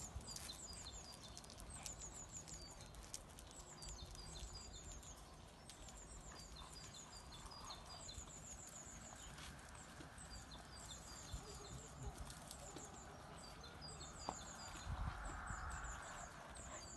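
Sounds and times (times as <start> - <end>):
faint outdoor background noise: 0.0 - 16.9
songbirds chirping: 0.0 - 16.9.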